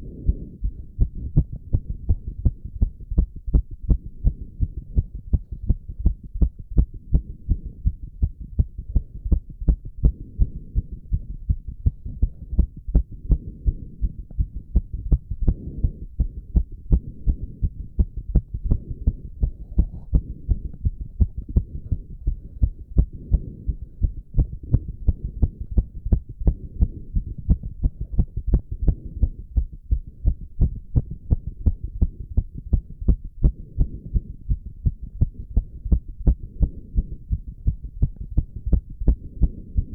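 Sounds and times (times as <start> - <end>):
heart thumping: 0.0 - 39.9.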